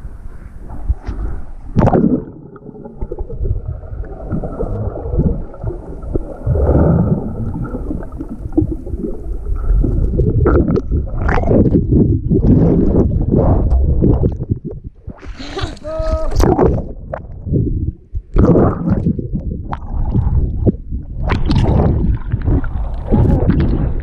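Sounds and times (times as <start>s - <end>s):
muffled underwater rumbling and gurgling: 0.0s - 24.0s.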